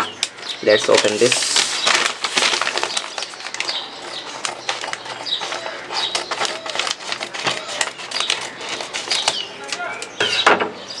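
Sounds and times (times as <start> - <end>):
paper crinkling: 0.1 - 10.1
scissors snipping paper: 0.2 - 10.1.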